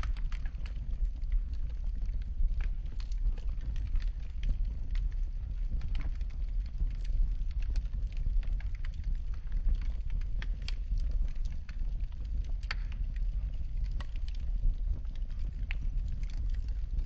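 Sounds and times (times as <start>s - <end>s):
fireplace fire crackling: 0.0s - 17.0s
low rumble of burning fire: 0.0s - 17.0s.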